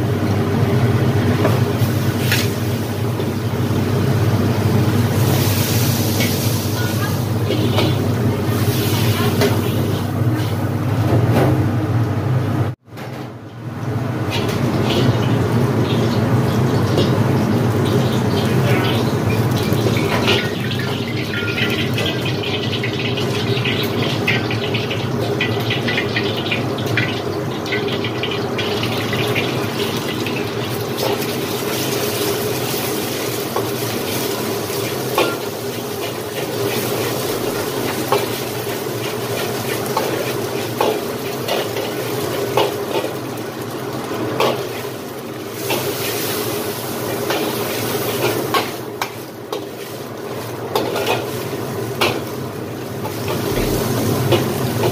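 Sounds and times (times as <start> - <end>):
food sizzling in a wok: 0.0 - 11.1, 13.6 - 54.9.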